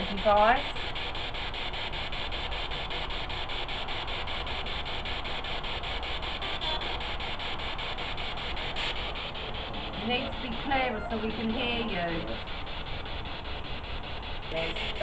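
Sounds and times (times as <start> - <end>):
chopped radio static: 0.0 - 15.0.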